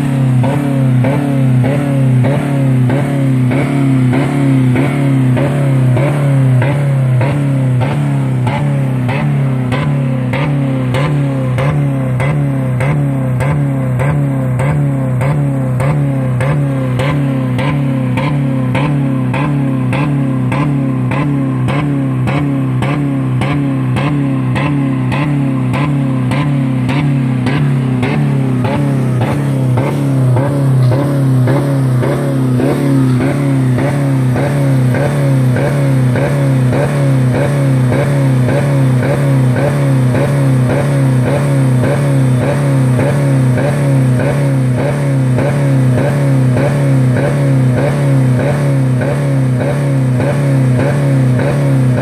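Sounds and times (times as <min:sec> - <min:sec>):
car engine droning at high revs: 0:00.0 - 0:52.0
rev limiter cracking: 0:00.0 - 0:52.0.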